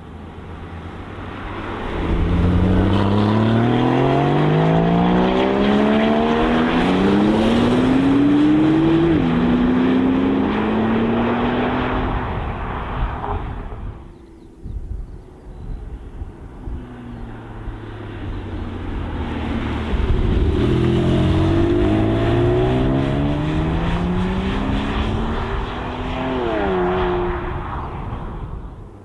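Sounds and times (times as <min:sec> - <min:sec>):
sports car engine accelerating: 0:01.6 - 0:14.0, 0:17.0 - 0:28.0.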